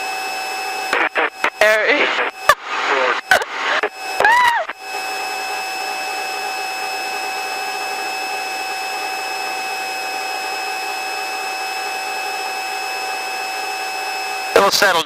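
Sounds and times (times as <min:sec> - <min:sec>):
helicopter cabin rushing noise: 0:00.0 - 0:15.0
high-pitched whines: 0:00.0 - 0:15.0.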